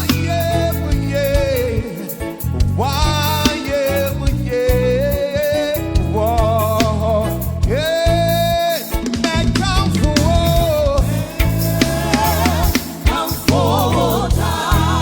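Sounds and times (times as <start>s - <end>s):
bass and drums: 0.0s - 15.0s
person singing with vibrato: 0.0s - 15.0s.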